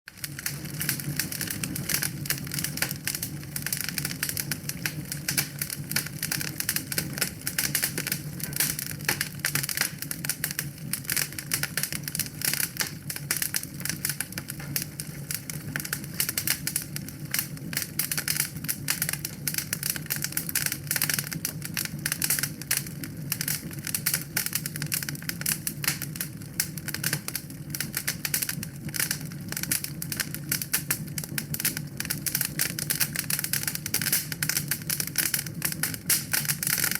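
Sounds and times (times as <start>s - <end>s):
fire crackling with snaps: 0.1s - 36.9s
low rumble of flames: 0.1s - 36.9s.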